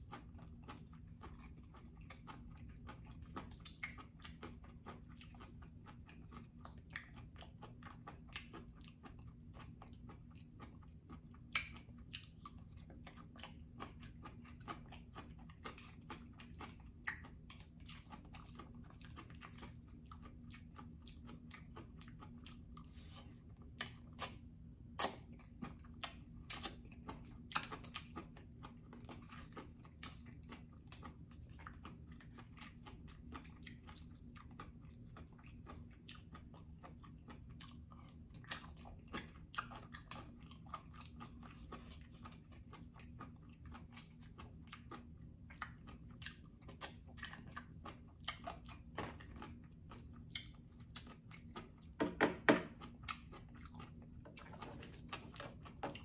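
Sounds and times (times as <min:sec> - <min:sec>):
chewing and wet mouth sounds: 0:00.0 - 0:56.0
steady low hum: 0:00.0 - 0:56.0.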